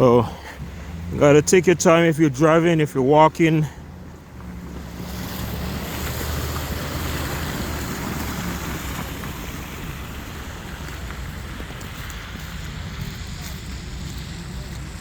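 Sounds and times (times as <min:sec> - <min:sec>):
traffic rushing on snowy street: 0:00.0 - 0:15.0.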